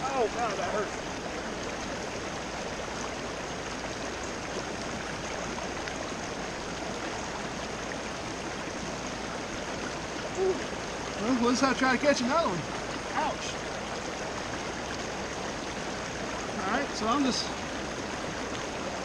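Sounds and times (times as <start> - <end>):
river water rushing past rocks: 0.0 - 19.0.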